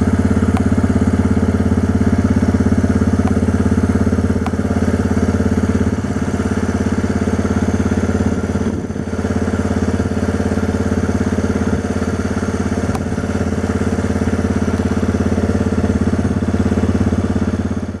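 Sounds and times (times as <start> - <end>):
quad bike engine idling: 0.0 - 18.0.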